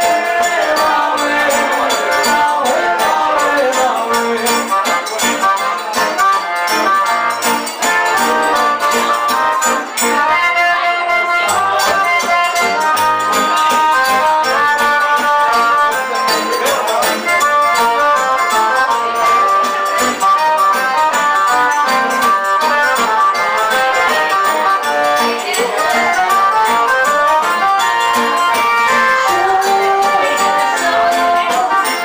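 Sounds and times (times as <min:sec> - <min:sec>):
accordion melody: 0:00.0 - 0:32.0
hand percussion rhythm: 0:00.0 - 0:32.0.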